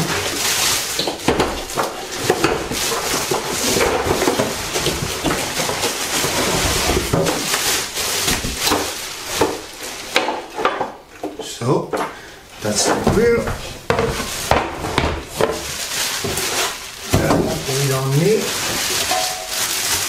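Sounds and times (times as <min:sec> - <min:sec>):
packaging knocks: 0:00.0 - 0:11.0, 0:12.7 - 0:20.0
plastic bag crinkling: 0:00.0 - 0:11.0, 0:12.5 - 0:20.0.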